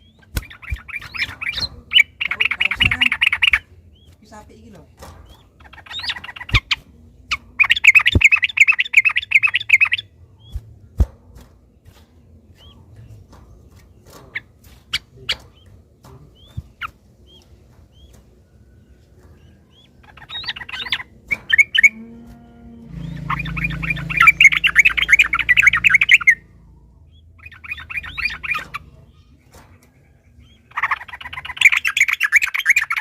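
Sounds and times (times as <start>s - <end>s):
bird bubbly rattling song: 0.0s - 4.2s, 5.0s - 10.8s, 11.8s - 22.0s, 22.9s - 33.0s.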